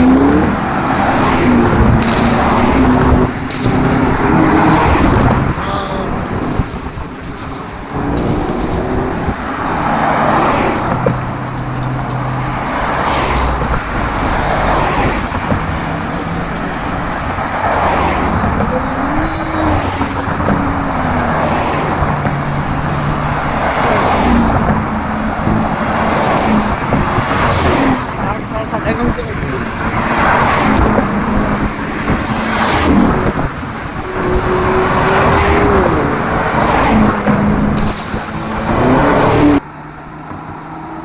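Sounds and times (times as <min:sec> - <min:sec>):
car engines: 0:00.0 - 0:41.0
vehicles passing: 0:00.0 - 0:41.0.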